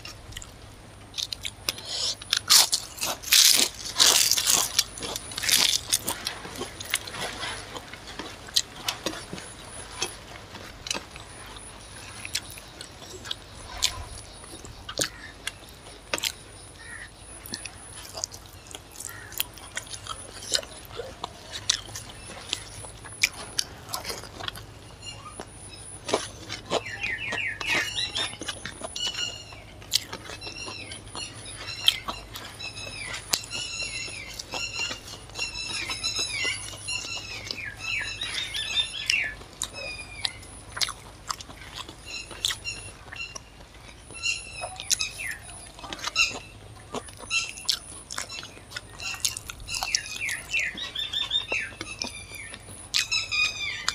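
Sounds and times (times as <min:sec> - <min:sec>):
person chewing food: 0:00.0 - 0:53.9
small birds chirping: 0:00.0 - 0:53.9.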